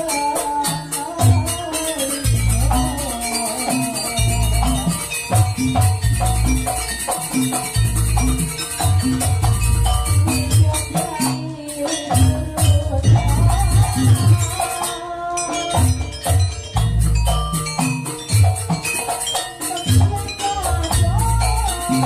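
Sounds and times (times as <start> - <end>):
repeating gamelan melody: 0.0 - 22.0
sharp high percussion strikes: 0.0 - 22.0.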